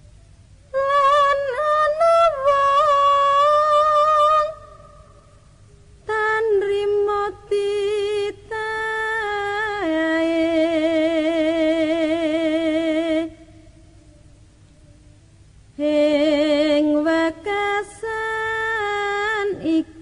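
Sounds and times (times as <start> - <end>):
woman singing unaccompanied: 0.0 - 20.0.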